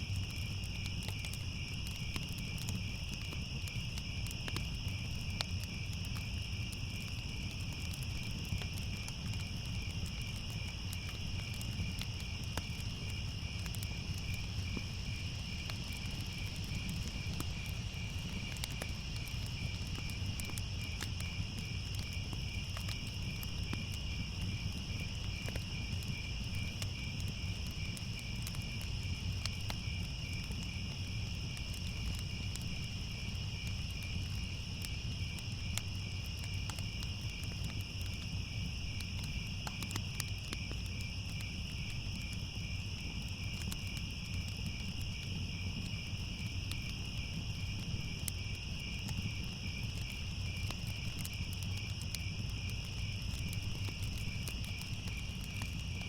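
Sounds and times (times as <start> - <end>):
crickets and insects trilling: 0.0 - 56.0
fire crackling and rumbling: 0.0 - 56.0
high continuous insect buzz: 0.0 - 56.0.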